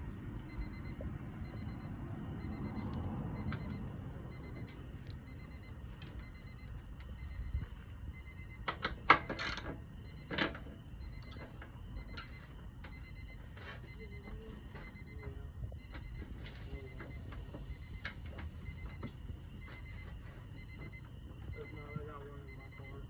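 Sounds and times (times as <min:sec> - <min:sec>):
faint high whine: 0:00.0 - 0:23.0
low rumble: 0:00.0 - 0:23.0.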